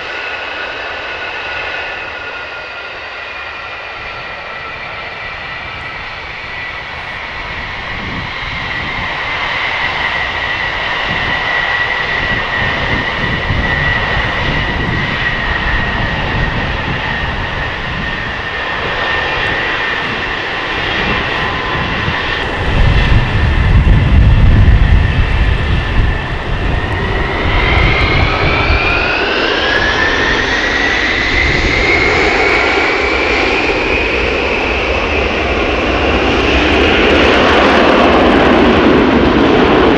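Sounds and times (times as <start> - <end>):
deep jet engine rumble: 0.0 - 39.9
jet engines whining: 0.0 - 39.9.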